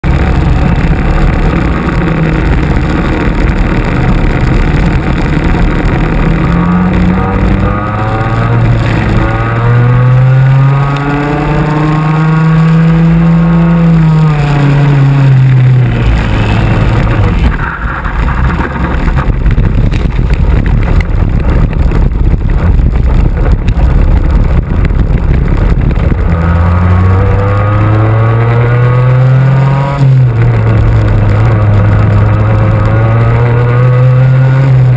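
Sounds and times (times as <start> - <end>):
kart two-stroke engine racing: 0.0 - 34.9
other kart engines: 0.0 - 34.9.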